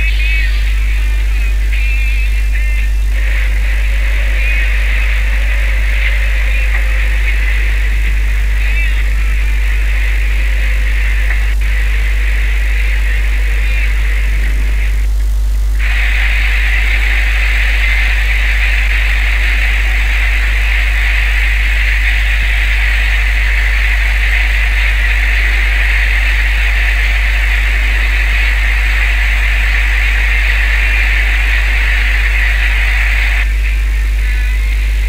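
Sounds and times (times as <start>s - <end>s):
boat engine droning: 0.0s - 15.0s, 15.8s - 34.7s
low hum: 0.0s - 35.0s.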